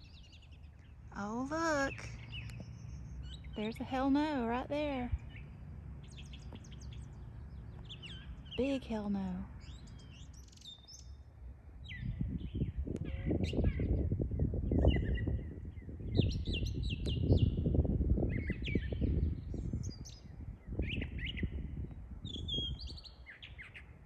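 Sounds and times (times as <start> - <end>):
songbird chirping: 0.0 - 24.0
wind buffeting microphone: 0.0 - 24.0.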